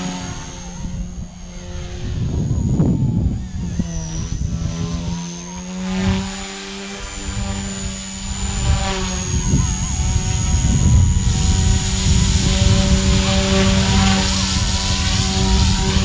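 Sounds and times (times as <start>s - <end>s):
electric motor whine: 0.0s - 16.0s
helicopter rotor hum: 0.0s - 16.0s
rotor wash rumble: 0.0s - 16.0s.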